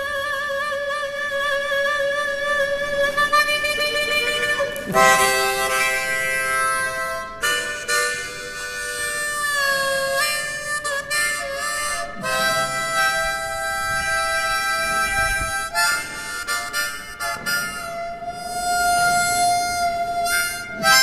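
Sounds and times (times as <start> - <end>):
harmonica playing chords: 0.0 - 21.0.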